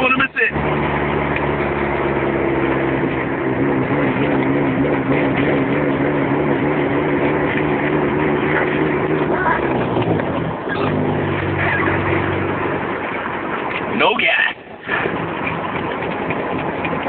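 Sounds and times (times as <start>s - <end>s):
car engine running while driving: 0.0s - 17.0s.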